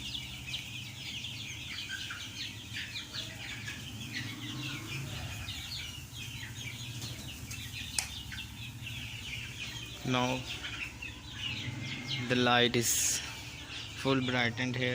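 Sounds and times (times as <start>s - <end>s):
chickens cheeping and clucking: 0.0s - 14.9s.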